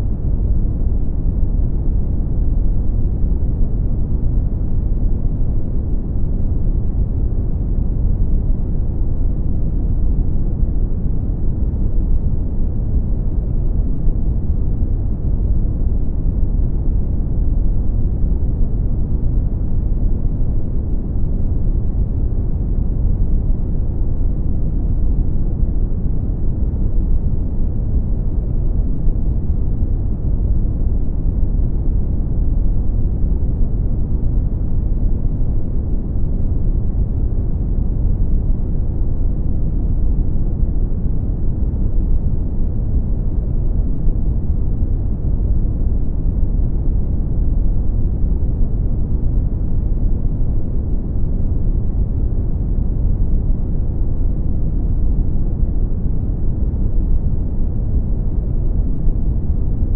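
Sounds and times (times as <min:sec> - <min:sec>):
deep rumbling brown noise: 0:00.0 - 0:59.9.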